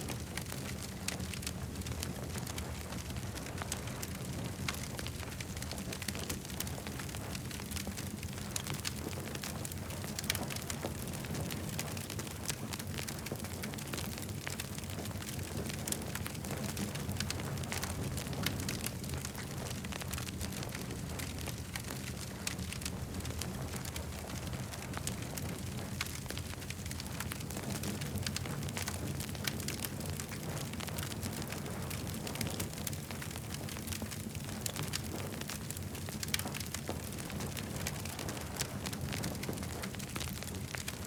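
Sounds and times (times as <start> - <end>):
campfire crackling: 0.1 - 41.0.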